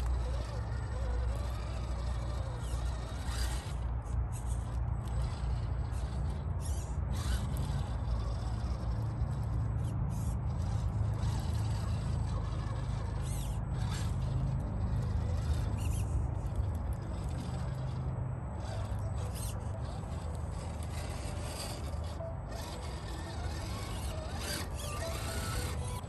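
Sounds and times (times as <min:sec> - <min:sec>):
tires scraping over bark and twigs: 0:00.0 - 0:26.0
toy motor and gears whining: 0:00.0 - 0:26.0.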